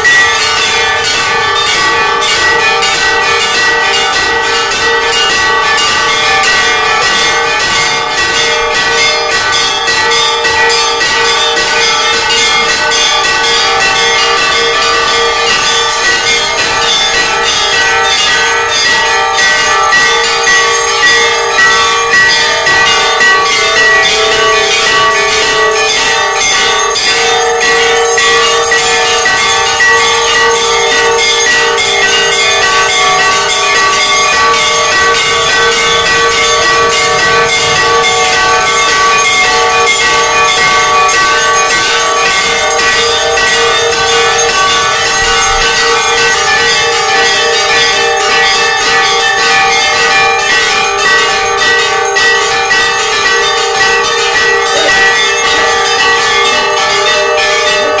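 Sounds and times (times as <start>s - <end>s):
temple bells clanging: 0.0s - 58.0s.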